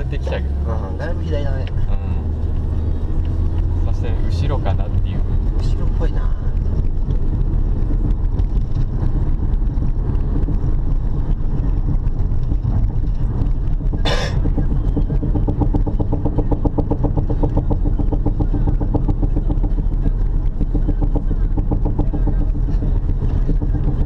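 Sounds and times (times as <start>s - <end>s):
road noise inside car: 0.0s - 24.0s
fast regular wheel knocking: 1.4s - 24.0s.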